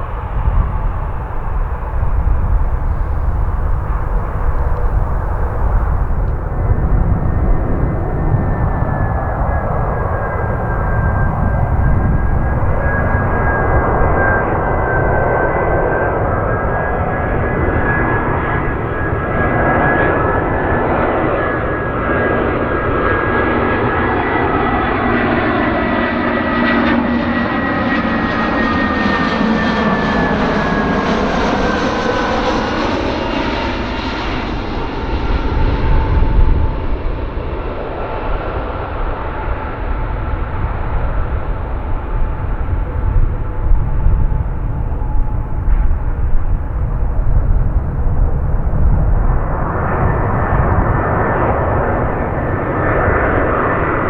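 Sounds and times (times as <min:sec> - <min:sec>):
jet fan whine: 0:00.0 - 0:34.9, 0:38.7 - 0:54.0
airliner engines rumbling: 0:00.0 - 0:54.0.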